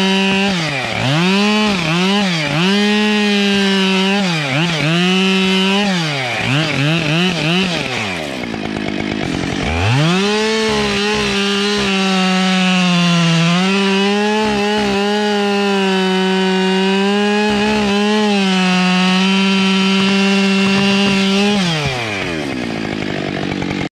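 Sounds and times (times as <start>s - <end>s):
chainsaw revving and idling: 0.0s - 23.9s
chainsaw sawing through log: 0.0s - 23.9s.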